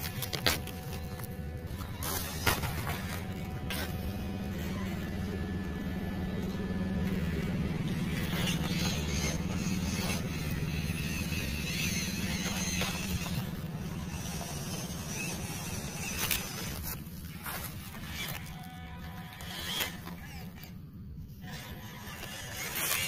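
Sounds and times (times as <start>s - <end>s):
small electric motor humming: 0.0s - 23.0s.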